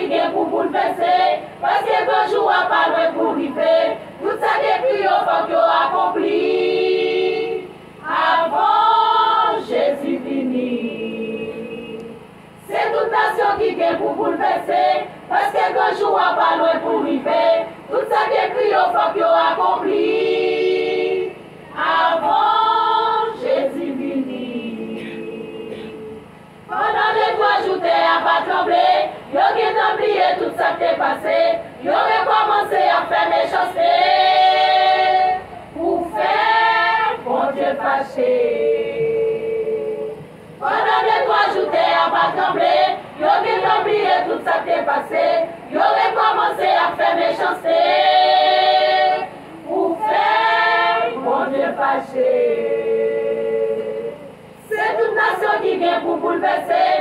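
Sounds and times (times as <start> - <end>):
women's choir singing a hymn: 0.0 - 57.0.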